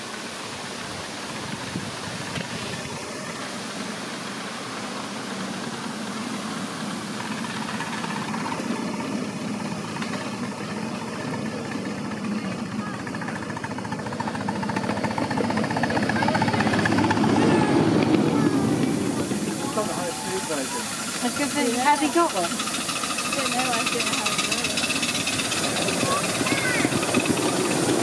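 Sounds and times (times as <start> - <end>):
miniature steam locomotive exhaust: 0.0 - 28.0.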